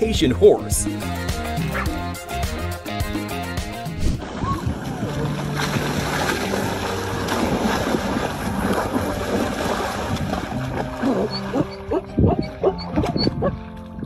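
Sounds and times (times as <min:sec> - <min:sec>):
water splashing and churning: 0:01.4 - 0:14.0.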